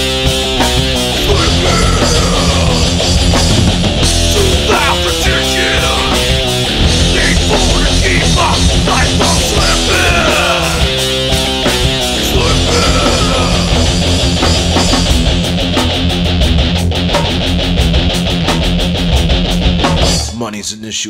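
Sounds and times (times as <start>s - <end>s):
guitar lead line sliding: 0.0s - 20.2s
punk metal band playing: 0.0s - 20.4s.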